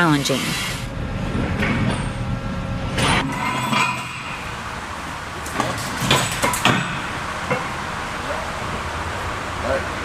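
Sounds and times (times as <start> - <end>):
steady mechanical noise: 0.0 - 10.0.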